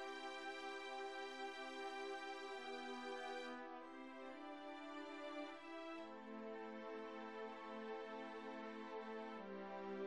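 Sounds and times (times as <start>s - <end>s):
soft sustained chords music: 0.0s - 10.0s.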